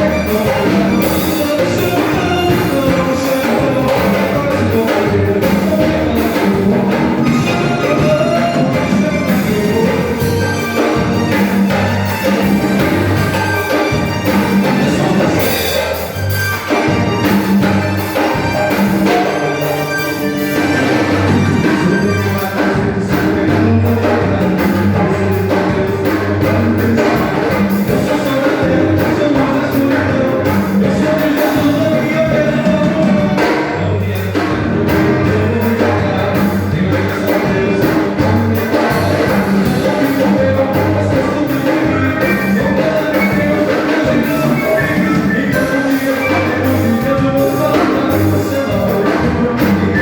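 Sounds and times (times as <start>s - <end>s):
bass notes: 0.0s - 50.0s
drum beat: 0.0s - 50.0s
live band playing: 0.0s - 50.0s
person singing: 0.0s - 50.0s.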